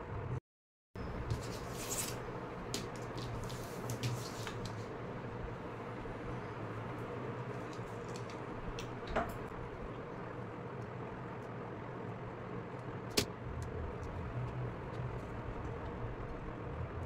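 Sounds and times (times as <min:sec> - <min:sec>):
steady low hum: 0:01.0 - 0:17.0.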